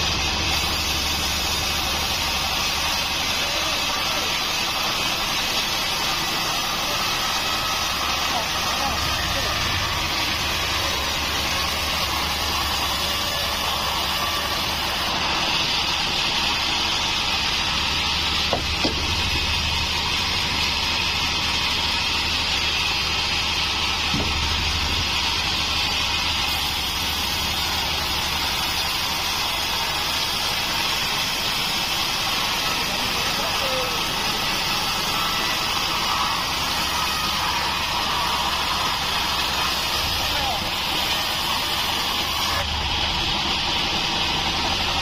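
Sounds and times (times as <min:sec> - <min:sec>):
band saw cutting wood: 0:00.0 - 0:45.0.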